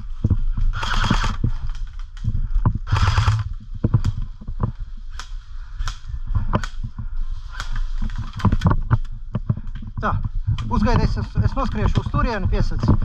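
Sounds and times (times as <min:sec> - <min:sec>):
footsteps in woodland: 0:00.0 - 0:13.0.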